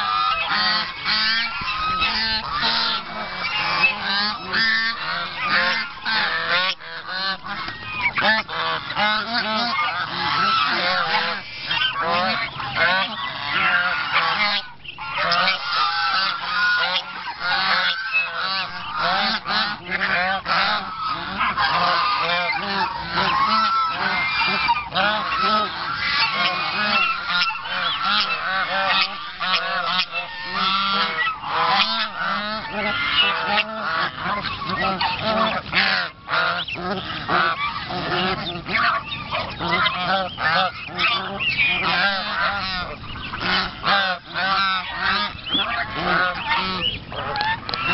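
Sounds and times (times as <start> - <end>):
geese honking: 0.0 - 47.9.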